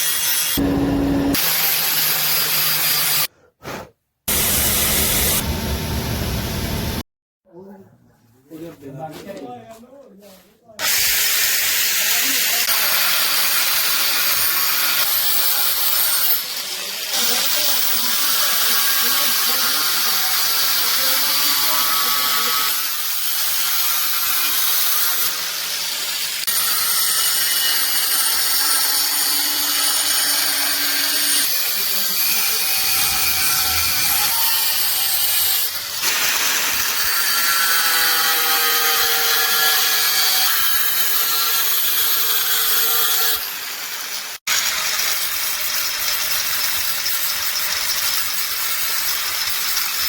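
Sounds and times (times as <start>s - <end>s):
power tool grinding steel: 0.0s - 3.3s, 4.3s - 7.0s, 10.8s - 50.0s.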